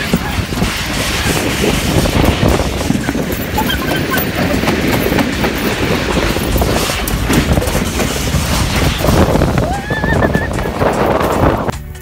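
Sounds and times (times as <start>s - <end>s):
wind rushing over microphone: 0.0s - 11.8s
amusement ride rattling rumble: 0.0s - 12.0s.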